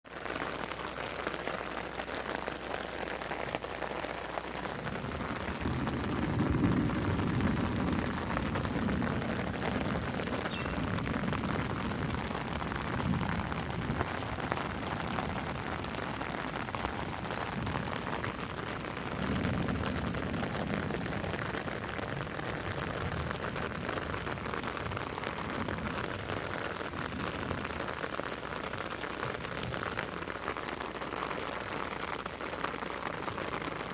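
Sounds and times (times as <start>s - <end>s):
rain pattering on surfaces: 0.0s - 33.9s.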